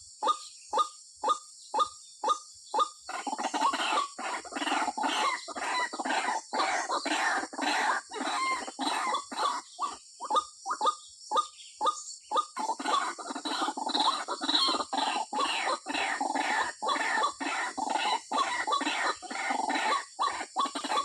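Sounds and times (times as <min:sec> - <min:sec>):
waterhen calling: 0:01.8 - 0:21.0.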